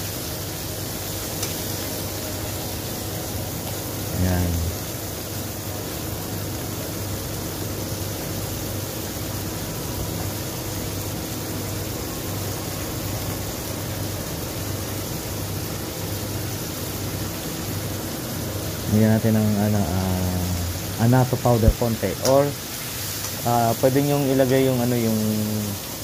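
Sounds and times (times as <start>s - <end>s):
seafood sizzling in a wok: 0.0s - 26.0s.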